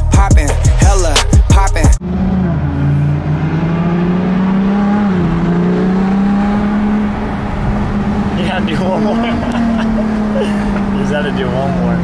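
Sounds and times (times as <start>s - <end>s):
car engine drone from cabin: 2.0s - 12.0s.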